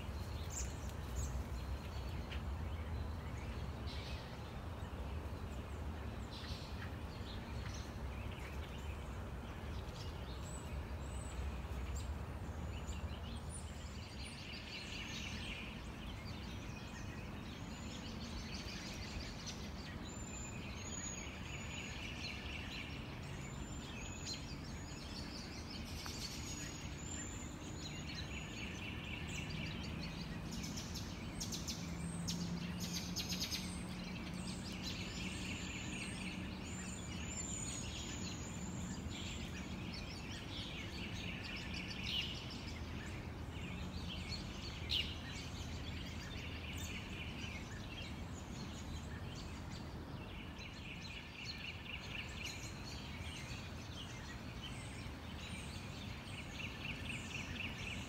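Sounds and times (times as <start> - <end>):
wild birds calling and trilling: 0.0 - 58.0.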